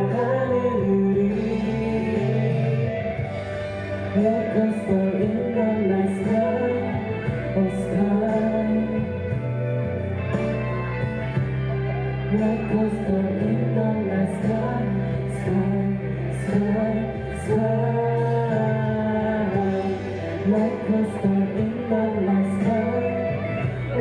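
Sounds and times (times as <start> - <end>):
live pop-rock band playing: 0.0 - 24.0.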